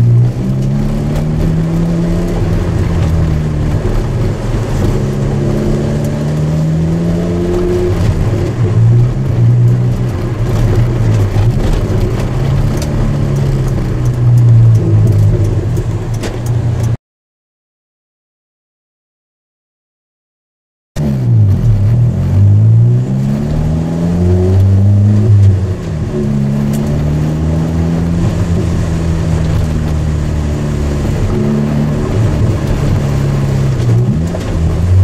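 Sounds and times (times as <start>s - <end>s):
car engine accelerating: 0.0s - 17.0s, 21.0s - 35.0s.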